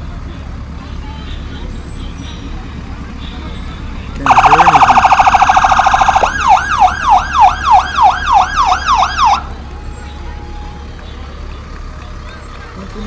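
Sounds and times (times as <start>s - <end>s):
fire truck siren warbling and yelping: 0.0s - 13.0s.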